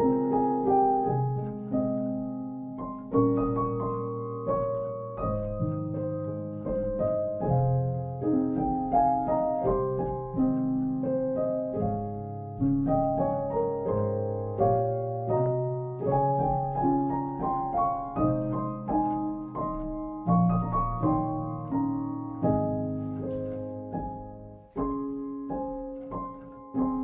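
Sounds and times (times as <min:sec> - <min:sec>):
slow gentle piano piece: 0:00.0 - 0:27.0.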